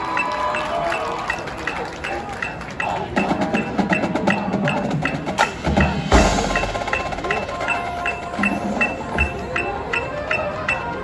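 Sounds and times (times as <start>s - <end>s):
mallet percussion notes: 0.0s - 11.0s
steady percussion tick: 0.0s - 11.0s.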